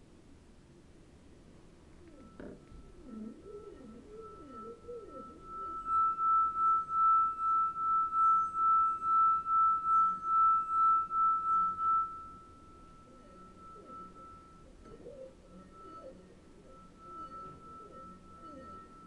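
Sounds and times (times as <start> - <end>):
wine glass singing: 2.1 - 19.0.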